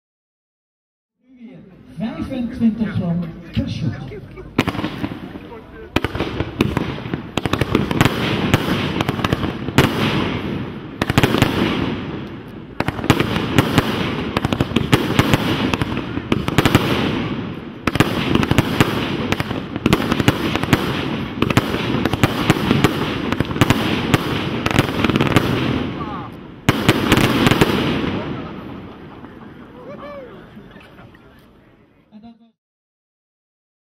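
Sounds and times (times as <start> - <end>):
fireworks crackling: 2.6 - 31.6.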